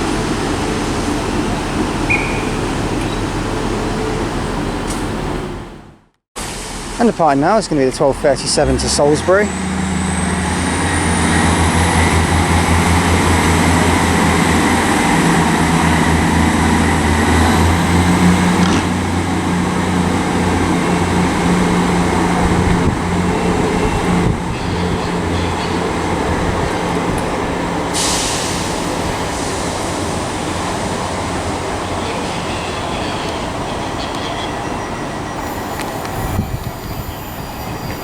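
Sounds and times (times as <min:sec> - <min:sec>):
train engine drone: 0:00.0 - 0:38.0.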